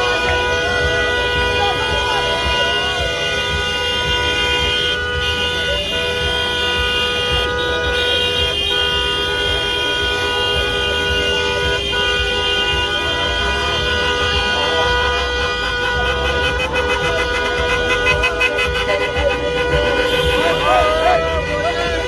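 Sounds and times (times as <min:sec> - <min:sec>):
slow traffic rumble: 0:00.0 - 0:22.0.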